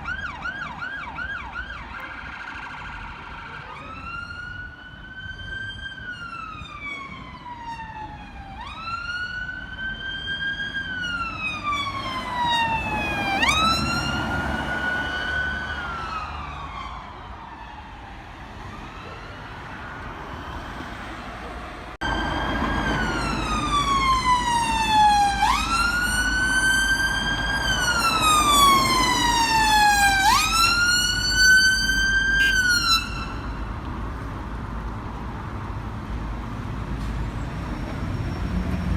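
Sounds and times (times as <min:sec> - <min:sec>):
siren wailing: 0:00.0 - 0:20.8, 0:22.0 - 0:33.6.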